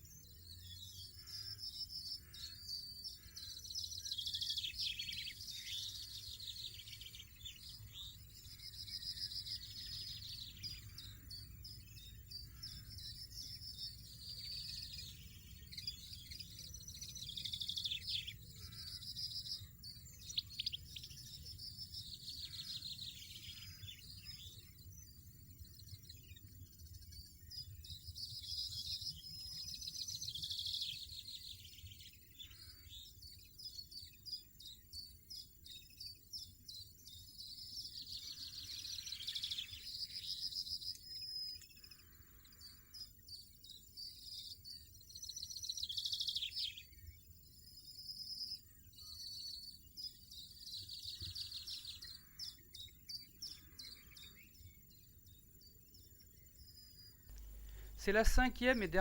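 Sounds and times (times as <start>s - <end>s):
finches twittering: 0.0s - 59.0s.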